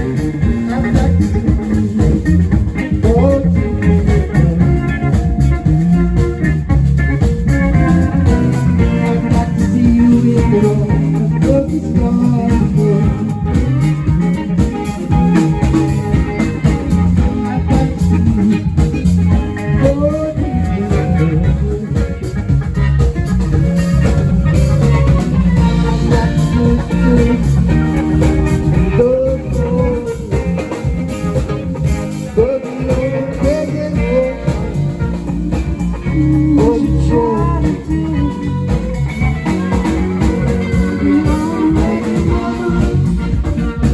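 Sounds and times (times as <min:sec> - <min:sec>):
lead guitar bending notes: 0:00.0 - 0:43.9
live band playing: 0:00.0 - 0:43.9.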